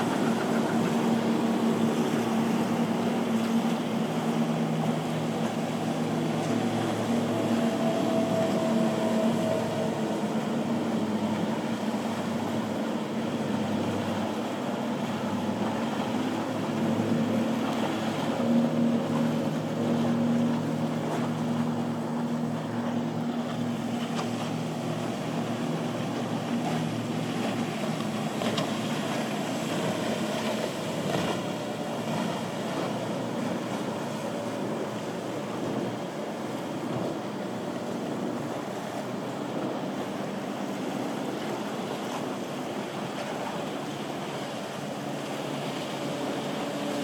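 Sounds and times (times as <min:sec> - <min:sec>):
motorboat engines humming: 0:00.0 - 0:47.0
water noise: 0:00.0 - 0:47.0
wind: 0:00.0 - 0:47.0.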